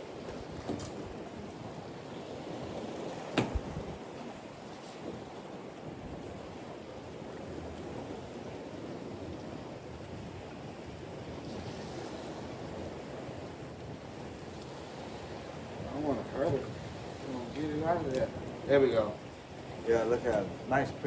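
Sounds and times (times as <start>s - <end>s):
surf: 0.0s - 21.0s
wind: 0.0s - 21.0s.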